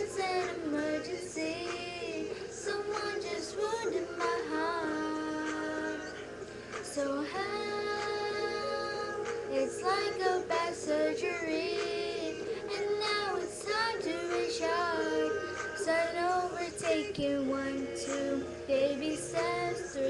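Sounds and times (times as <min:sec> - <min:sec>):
girl singing: 0:00.0 - 0:06.2, 0:06.8 - 0:20.0.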